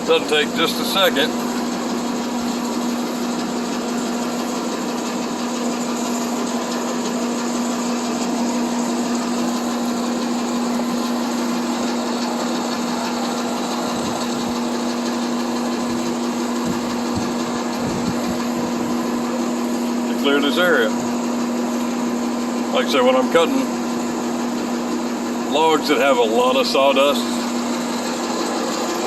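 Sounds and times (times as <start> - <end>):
sawmill mechanical hum: 0.0 - 29.0.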